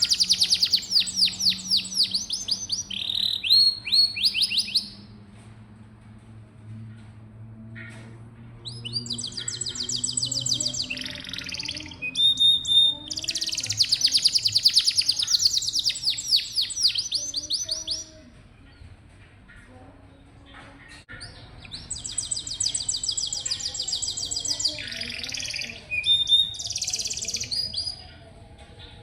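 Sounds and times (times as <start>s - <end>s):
canary singing trills: 0.0s - 5.1s, 8.6s - 18.8s, 20.9s - 29.0s.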